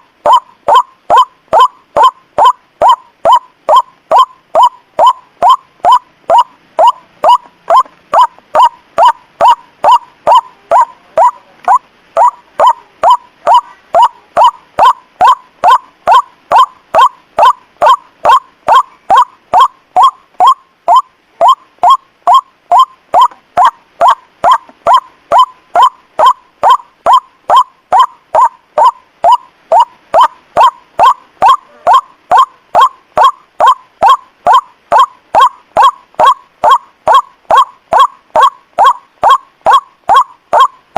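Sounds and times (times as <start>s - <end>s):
waterhen call: 0.0s - 40.9s.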